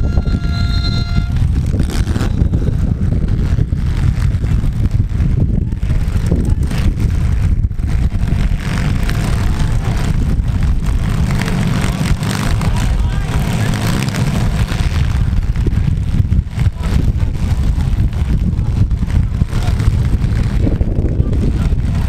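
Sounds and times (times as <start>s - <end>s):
car engines rumbling: 0.0s - 22.0s.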